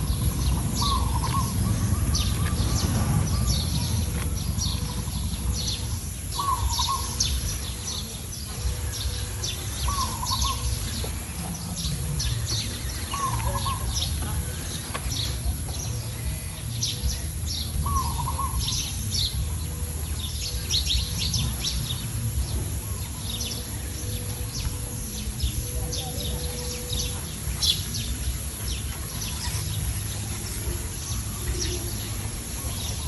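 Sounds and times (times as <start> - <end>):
small birds chirping: 0.0 - 33.0
steady low rumble: 0.0 - 33.0.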